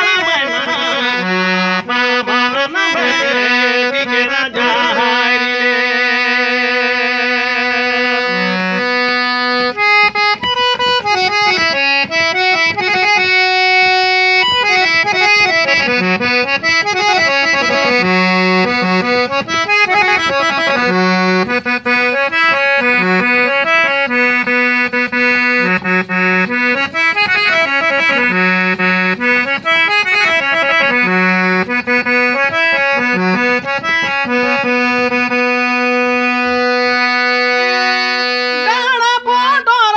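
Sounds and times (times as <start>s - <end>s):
free-reed keyboard melody: 0.0s - 39.4s.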